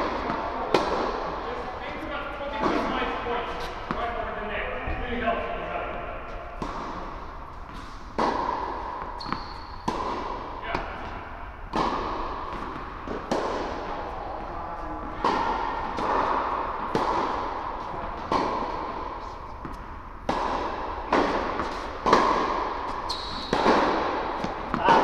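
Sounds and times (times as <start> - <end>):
balls bouncing on hard court: 0.0 - 25.0
tennis balls struck by rackets: 0.0 - 25.0.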